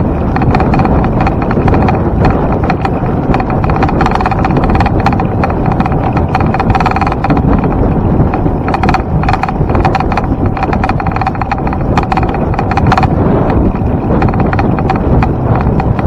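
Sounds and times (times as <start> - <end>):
constant hum: 0.0 - 16.0
wind and road noise: 0.0 - 16.0
camera mount rattling: 0.3 - 16.0.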